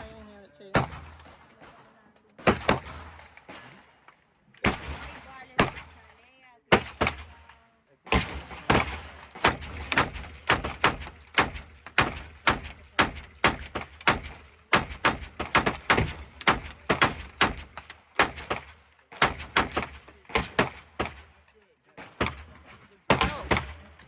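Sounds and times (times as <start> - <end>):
rapid gunfire: 0.8 - 1.5, 2.4 - 3.8, 4.6 - 6.1, 6.7 - 7.4, 8.1 - 21.4, 22.0 - 24.0.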